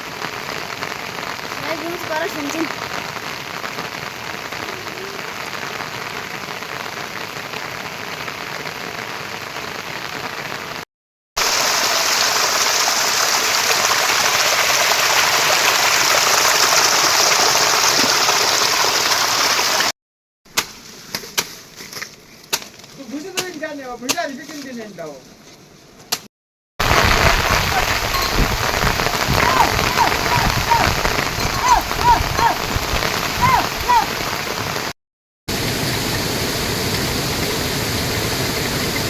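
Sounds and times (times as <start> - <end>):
heavy rain pouring: 0.0 - 10.8, 11.4 - 19.9, 26.8 - 39.0.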